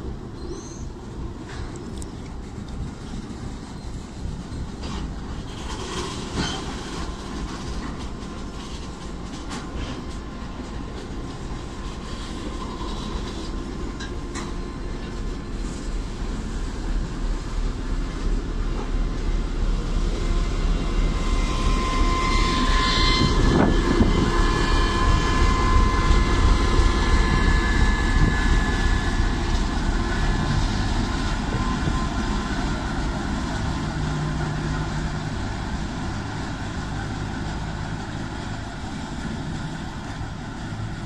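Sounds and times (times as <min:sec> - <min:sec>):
train rumble and rail noise: 0:00.0 - 0:41.0.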